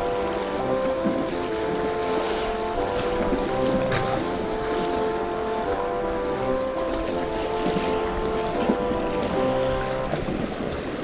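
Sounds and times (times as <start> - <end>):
background music: 0.0 - 10.2
waves: 0.0 - 11.0
wind buffeting microphone: 0.0 - 11.0.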